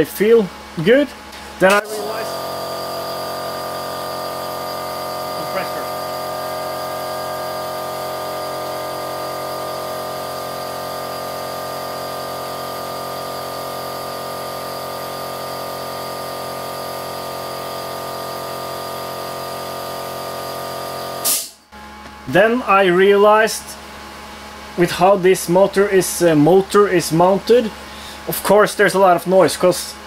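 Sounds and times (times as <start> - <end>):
motor hum with high whine: 0.0 - 30.0.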